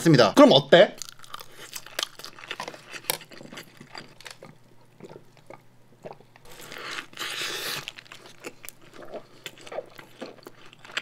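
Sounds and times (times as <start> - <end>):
crunchy bite: 1.0 - 11.0
wet chewing: 1.0 - 11.0.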